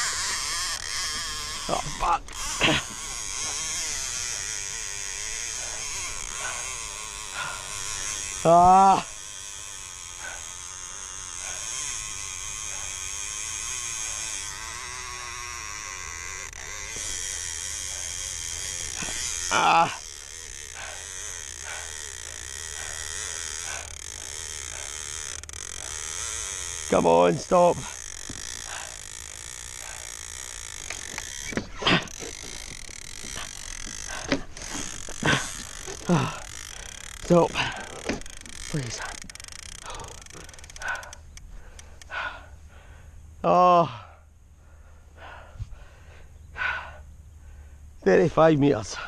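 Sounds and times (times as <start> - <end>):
fishing reel drag buzzing: 0.0 - 49.0.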